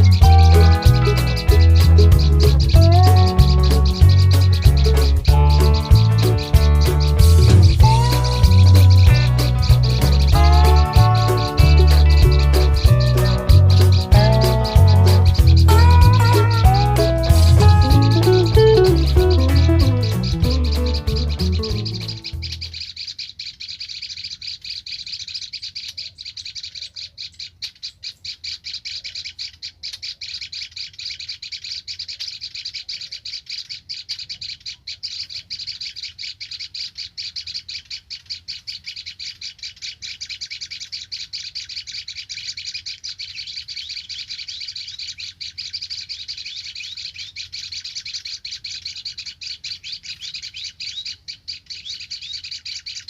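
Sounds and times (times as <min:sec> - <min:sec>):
warbler chattering song: 0:00.0 - 0:53.0.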